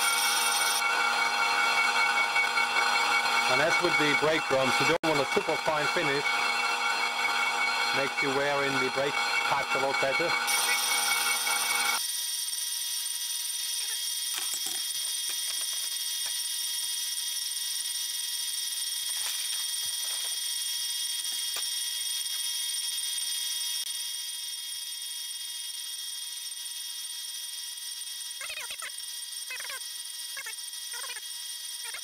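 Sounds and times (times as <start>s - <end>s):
cutting tool squeal: 0.0s - 23.9s, 24.6s - 32.0s
lathe whining and humming: 0.0s - 32.0s.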